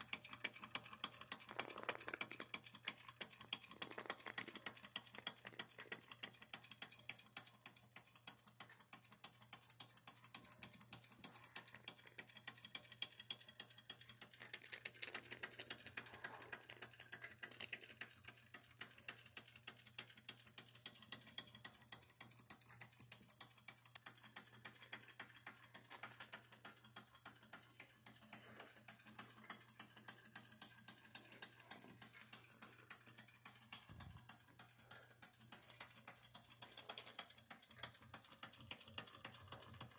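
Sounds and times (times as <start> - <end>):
steam engine mechanical ticking: 0.0 - 39.9.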